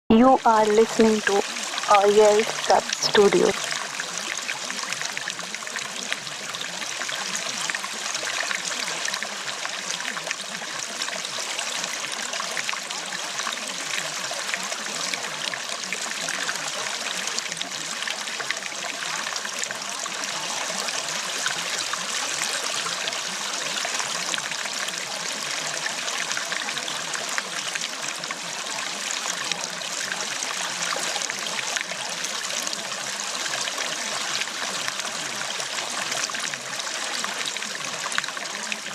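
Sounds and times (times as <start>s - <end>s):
running water: 0.1s - 38.9s.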